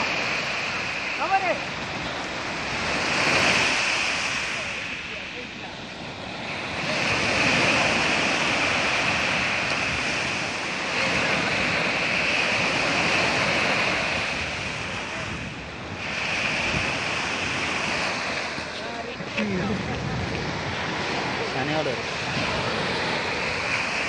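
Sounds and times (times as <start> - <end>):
small waves breaking: 0.0 - 24.0
surf washing up sandy shore: 0.0 - 24.0
wind on microphone: 0.0 - 24.0.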